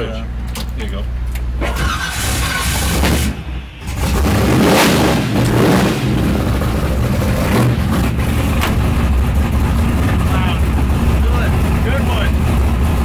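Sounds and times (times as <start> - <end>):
race car engine deep rumble: 0.0 - 13.0.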